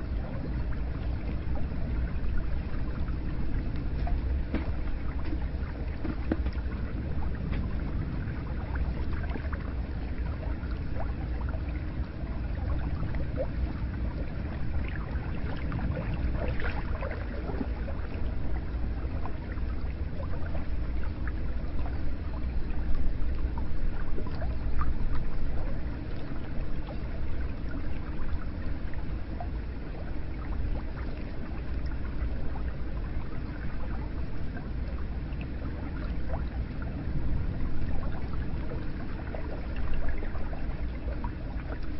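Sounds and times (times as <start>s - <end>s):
water trickles and splashes: 0.0s - 41.9s.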